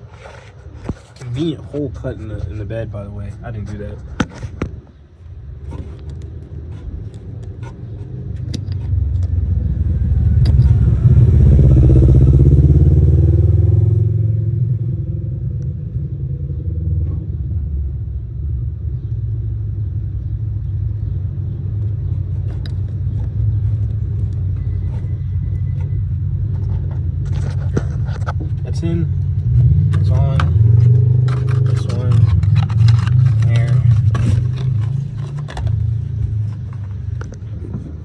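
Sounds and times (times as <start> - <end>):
truck engine revving and idling: 5.6 - 38.0.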